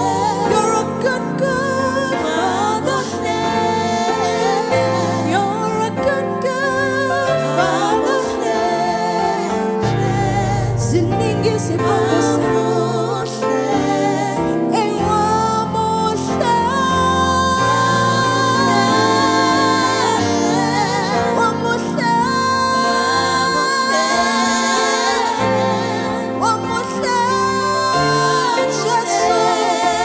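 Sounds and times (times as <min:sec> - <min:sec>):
person singing long notes: 0:00.0 - 0:30.0
sustained chords: 0:00.0 - 0:30.0.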